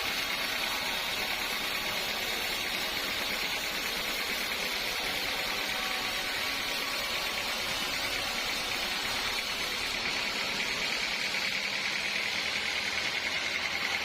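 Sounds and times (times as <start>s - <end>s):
sawmill saw running: 0.0s - 14.0s.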